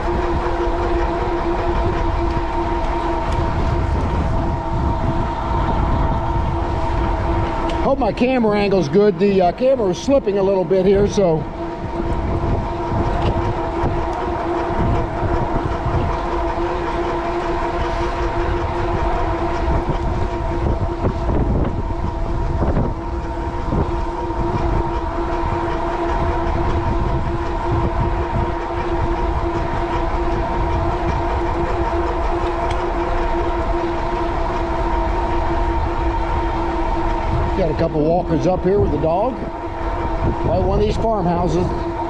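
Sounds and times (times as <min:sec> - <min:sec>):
electric motor whine: 0:00.0 - 0:42.0
wind buffeting microphone: 0:00.0 - 0:42.0.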